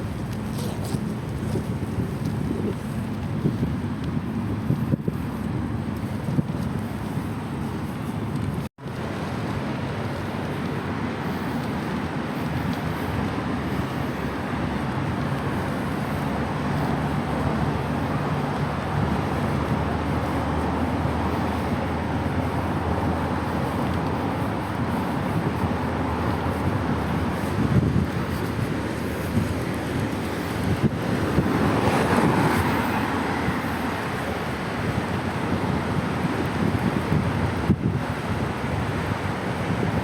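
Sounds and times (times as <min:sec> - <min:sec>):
city traffic noise: 0:00.0 - 0:40.0
wind rumble on microphone: 0:00.0 - 0:40.0.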